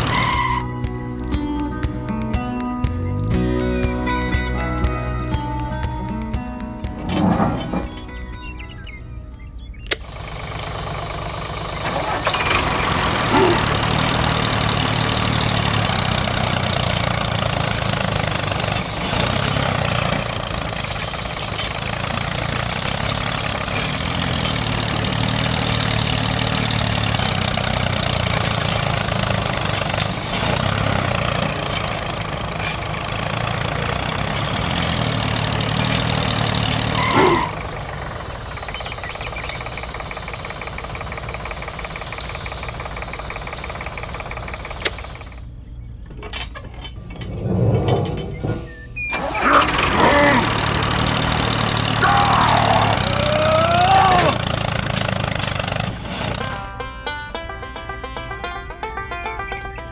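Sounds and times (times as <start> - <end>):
toy tractor motor running: 0.0 - 1.9, 9.9 - 47.0, 49.1 - 59.9.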